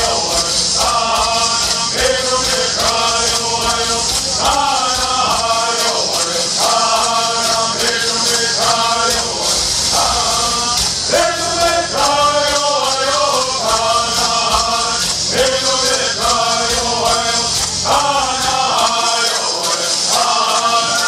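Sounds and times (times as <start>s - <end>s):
men singing chanted phrases: 0.0s - 21.0s
rattles shaking: 0.0s - 21.0s.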